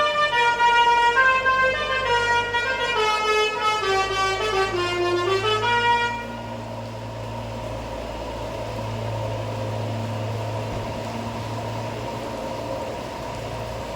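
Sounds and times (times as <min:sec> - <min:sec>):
bus engine running: 0:00.0 - 0:13.9.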